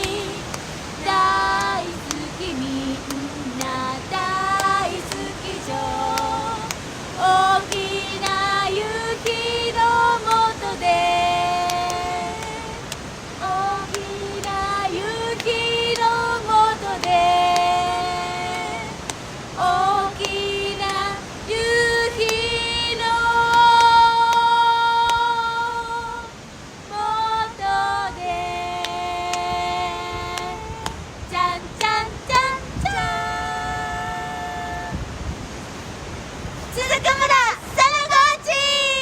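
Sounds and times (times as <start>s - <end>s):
women singing: 0.0s - 35.2s, 36.6s - 39.0s.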